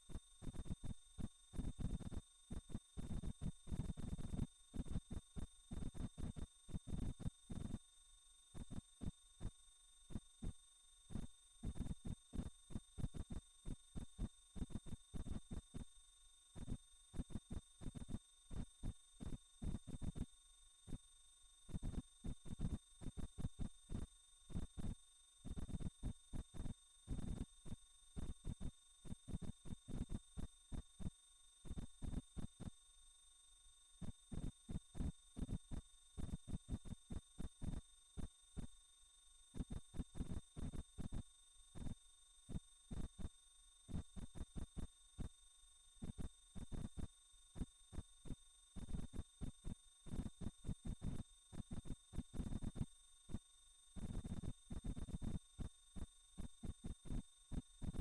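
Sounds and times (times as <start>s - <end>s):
pulsing high-pitched sine tone: 0.0s - 58.0s.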